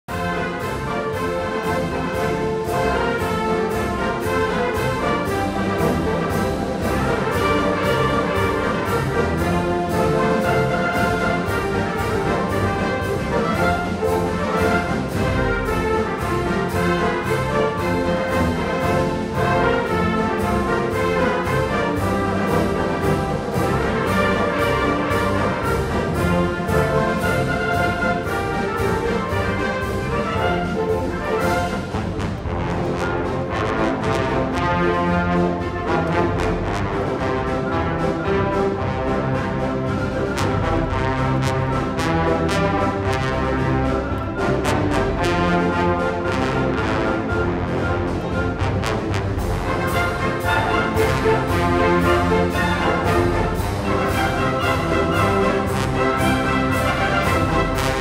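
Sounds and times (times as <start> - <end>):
concert band playing: 0.1 - 58.0.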